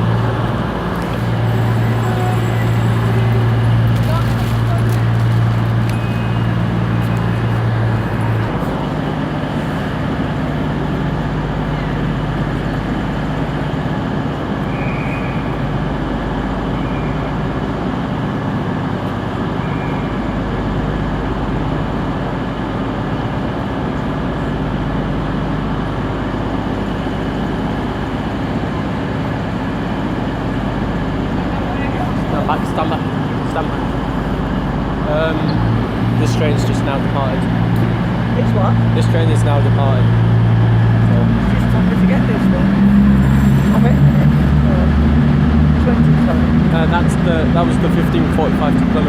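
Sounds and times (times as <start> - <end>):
deeper engine tone: 0.0 - 49.0
train engine rumbling: 0.0 - 49.0.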